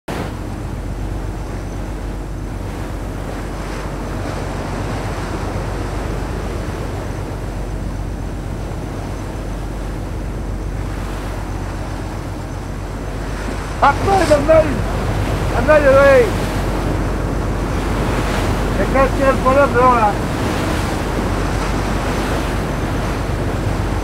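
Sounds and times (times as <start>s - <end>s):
low hum: 0.1s - 24.0s
sea waves: 0.1s - 24.0s
wind buffeting microphone: 0.1s - 24.0s.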